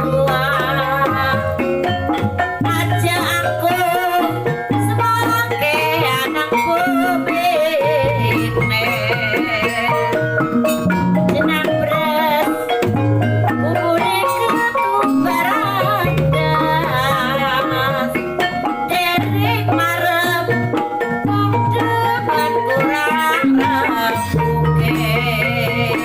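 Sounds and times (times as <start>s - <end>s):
hand drums: 0.0s - 26.0s
high melody line: 0.0s - 26.0s.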